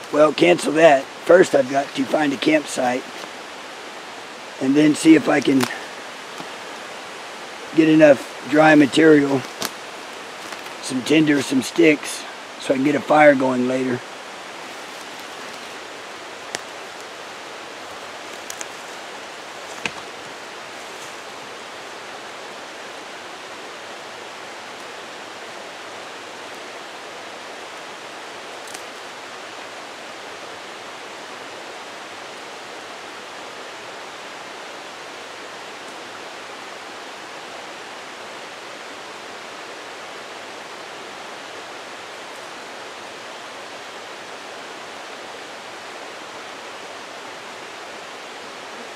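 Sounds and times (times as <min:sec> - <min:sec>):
creek water rushing: 0:00.0 - 0:48.9.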